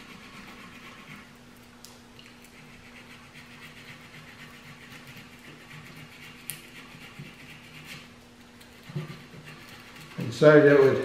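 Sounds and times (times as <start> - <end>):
sandpaper grinding wood: 0.0 - 1.3, 2.6 - 11.0.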